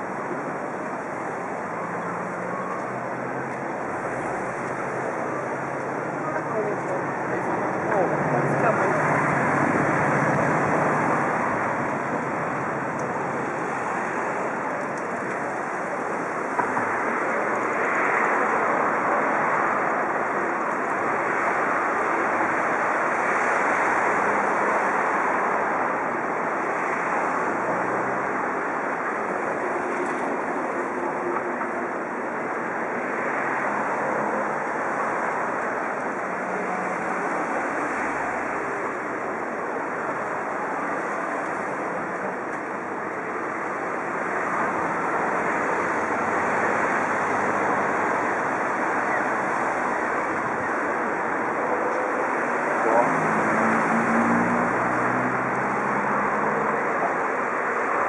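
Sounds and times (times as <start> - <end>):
steady rushing outdoor noise: 0.0 - 58.0.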